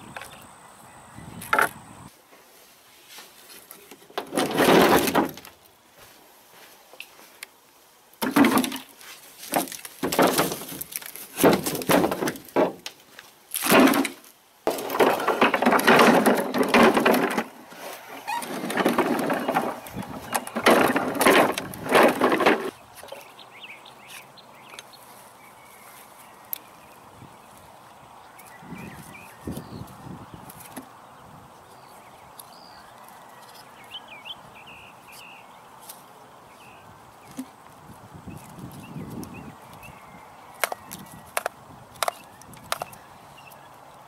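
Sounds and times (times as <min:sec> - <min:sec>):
dry wood and bark cracking: 0:03.4 - 0:05.8, 0:06.9 - 0:44.0.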